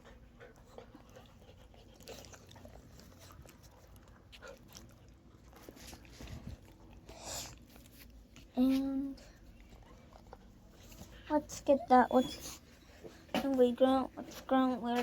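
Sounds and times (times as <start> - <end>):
dog chewing: 0.0 - 13.7.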